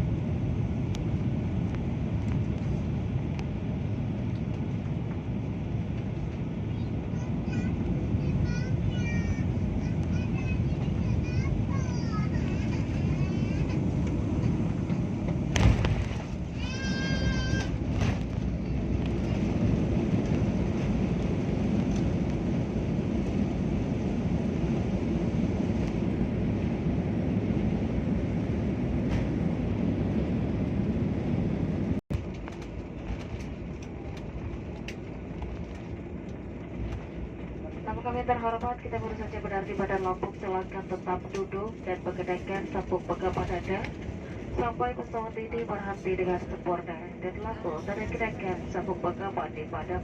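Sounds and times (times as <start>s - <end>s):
low rumble of engines and wheels: 0.0s - 50.0s.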